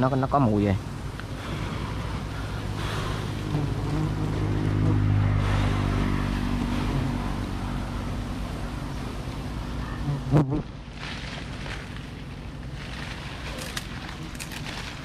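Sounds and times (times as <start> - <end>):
motor engine humming: 0.8 - 15.0.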